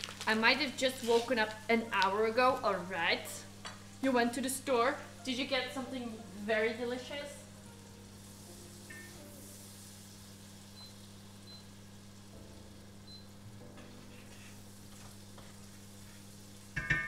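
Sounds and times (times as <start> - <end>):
butter sizzling in pot: 0.0 - 17.0
low electrical hum: 0.0 - 17.0.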